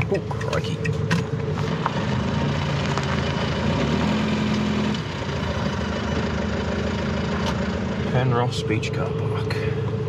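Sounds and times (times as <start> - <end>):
van engine running: 0.0 - 10.0.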